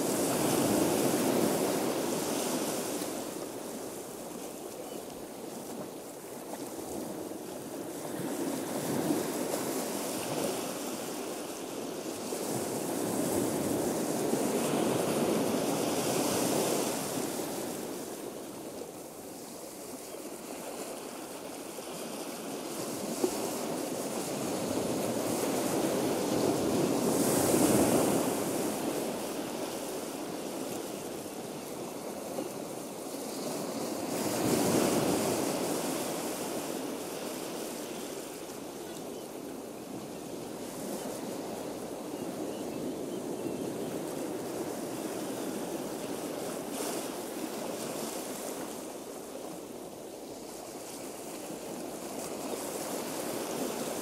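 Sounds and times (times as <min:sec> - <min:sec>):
ocean waves washing: 0:00.0 - 0:54.0.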